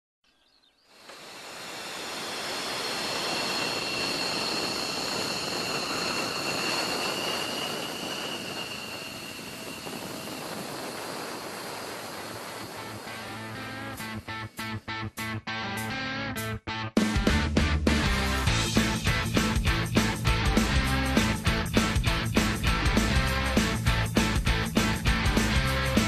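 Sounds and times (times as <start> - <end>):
jet engine roaring with turbine whine: 0.7 - 15.1, 18.0 - 26.0.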